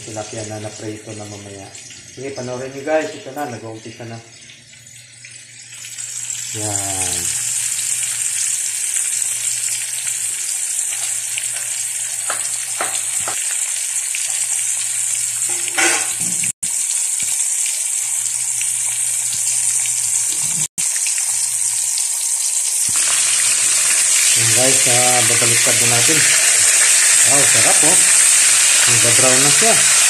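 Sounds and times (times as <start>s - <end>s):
fish sizzling in hot oil: 4.9s - 30.0s.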